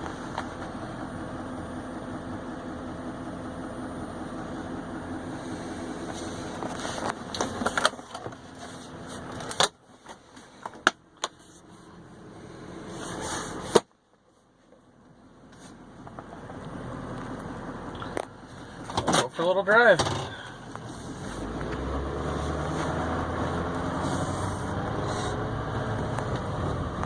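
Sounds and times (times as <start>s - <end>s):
diesel engine idling: 0.0s - 13.8s, 14.4s - 27.0s.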